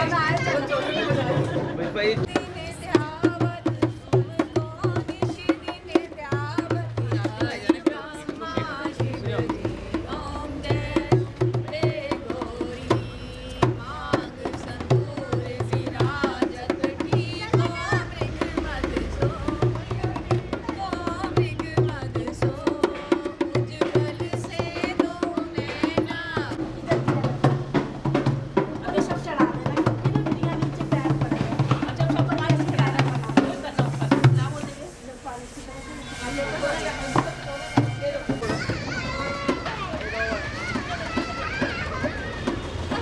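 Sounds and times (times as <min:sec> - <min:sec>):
hand drum beating folk rhythm: 0:00.0 - 0:43.0
voices singing: 0:00.0 - 0:43.0.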